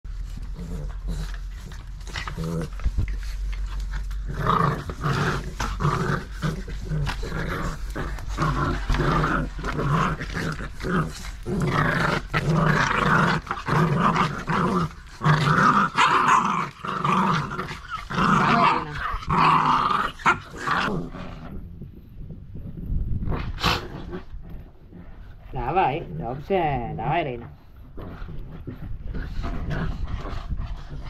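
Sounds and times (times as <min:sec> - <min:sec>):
dogs growling in play: 0:00.0 - 0:31.0.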